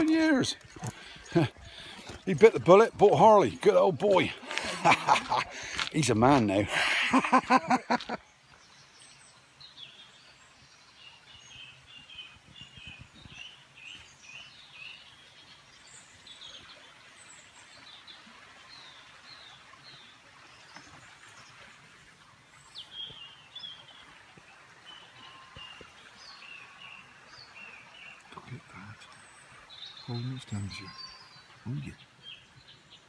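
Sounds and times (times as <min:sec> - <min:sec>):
small birds chirping and trilling: 0:00.0 - 0:33.0.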